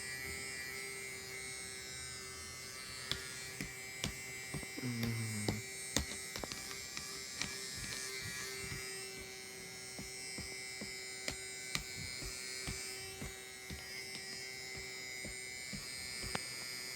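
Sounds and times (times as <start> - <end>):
electric fan humming: 1.3 - 16.9.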